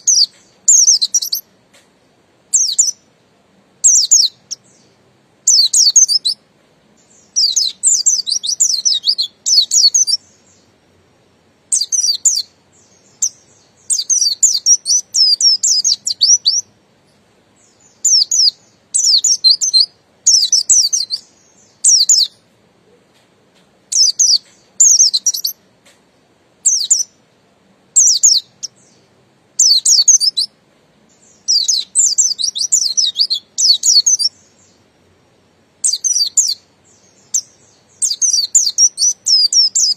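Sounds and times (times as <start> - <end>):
bird high twittering song: 0.0 - 3.2, 3.8 - 11.0, 11.7 - 23.2, 23.9 - 27.2, 28.0 - 35.0, 35.8 - 39.9.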